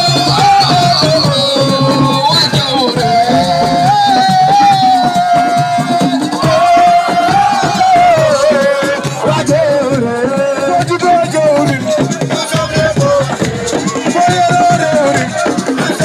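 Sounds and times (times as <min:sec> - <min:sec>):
busy percussion groove: 0:00.0 - 0:16.0.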